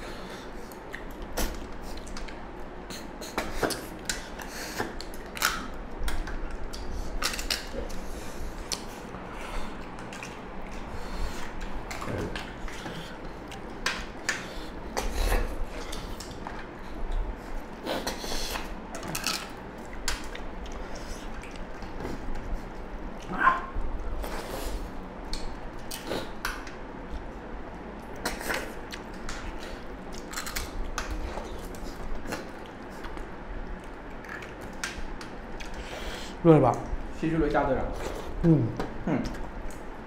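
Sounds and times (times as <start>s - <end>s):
people chewing: 0.0s - 40.0s.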